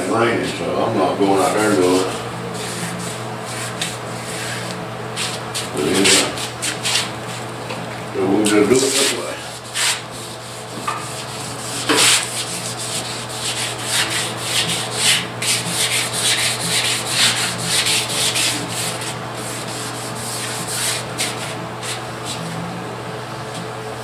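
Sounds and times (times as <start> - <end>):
sandpaper rasping strokes: 1.4 - 7.1, 8.8 - 22.5.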